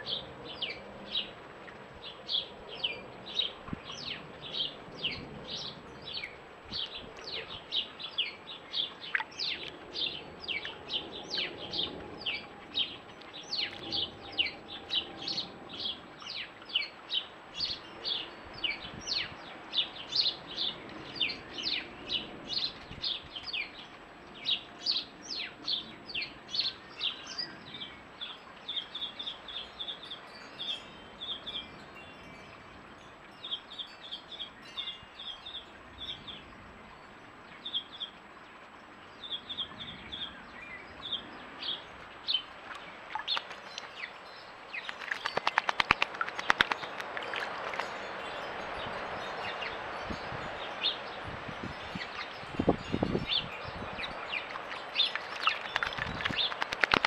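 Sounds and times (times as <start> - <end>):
small songbird chirping: 2.0 - 57.0.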